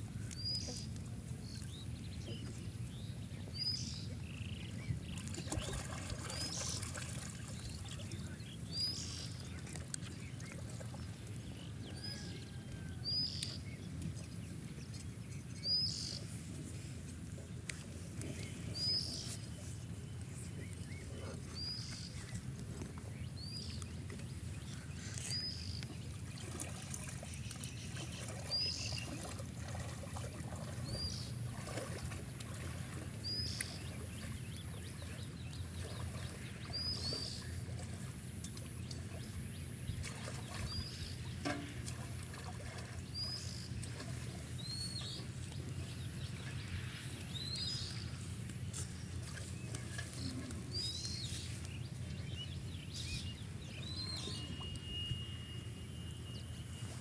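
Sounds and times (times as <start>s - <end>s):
pond water sloshing: 0.0s - 57.0s.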